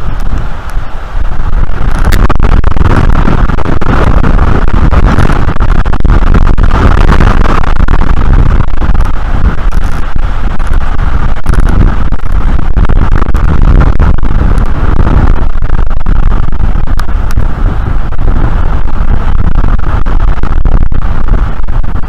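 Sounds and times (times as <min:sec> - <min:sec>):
crackles: 0:00.0 - 0:22.0
wind buffeting microphone: 0:00.0 - 0:22.0.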